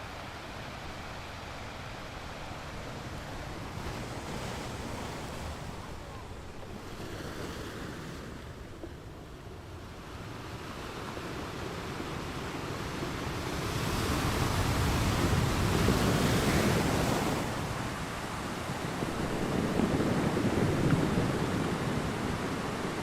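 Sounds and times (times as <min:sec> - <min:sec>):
ocean waves washing in: 0:00.0 - 0:23.0.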